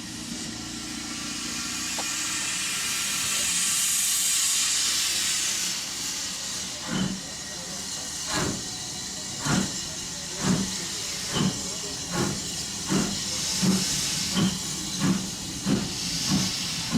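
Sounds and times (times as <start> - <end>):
steam hissing: 0.0 - 16.9
steam locomotive exhaust chuffs: 0.0 - 16.9.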